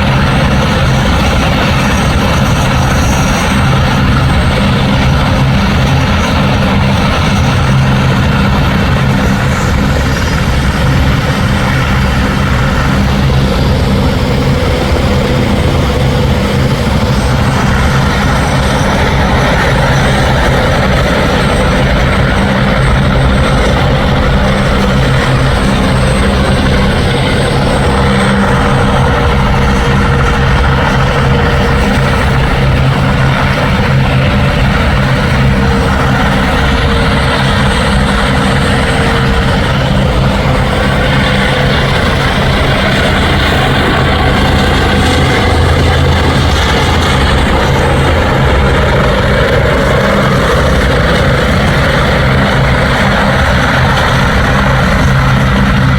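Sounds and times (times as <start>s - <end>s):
helicopter rotor and turbine: 0.0s - 55.9s.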